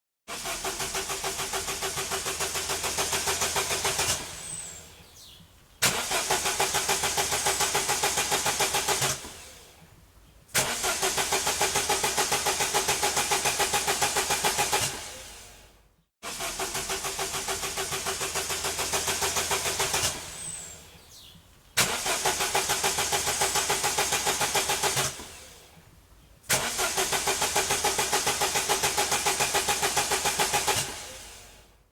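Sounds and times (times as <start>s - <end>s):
car starter cranking engine: 0.3s - 31.8s.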